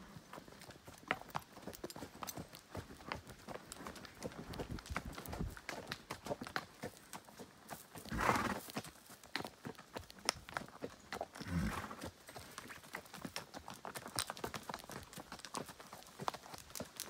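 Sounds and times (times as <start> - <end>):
horse hooves clopping: 0.0 - 17.0.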